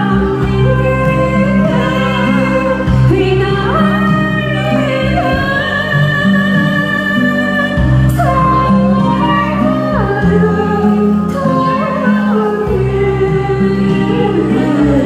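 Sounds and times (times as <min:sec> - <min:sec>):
instrumental accompaniment with bass: 0:00.0 - 0:15.0
woman singing into a microphone: 0:00.0 - 0:15.0.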